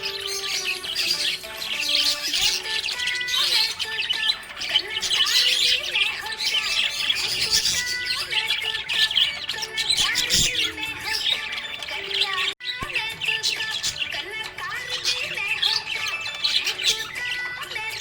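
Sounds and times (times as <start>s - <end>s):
budgerigars chattering and chirping: 0.0s - 18.0s.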